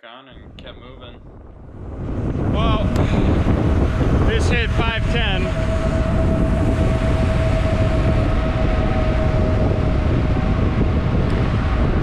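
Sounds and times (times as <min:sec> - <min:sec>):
thin steady whine: 0:00.3 - 0:12.0
wind buffeting microphone: 0:00.3 - 0:12.0.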